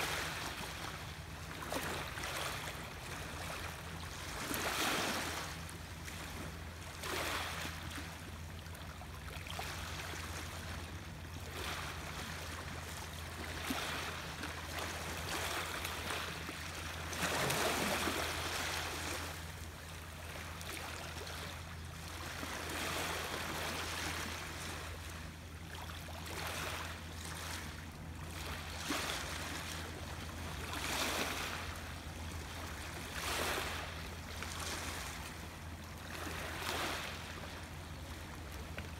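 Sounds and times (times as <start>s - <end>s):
small waves lapping: 0.0s - 38.9s
steady low hum: 0.0s - 38.9s.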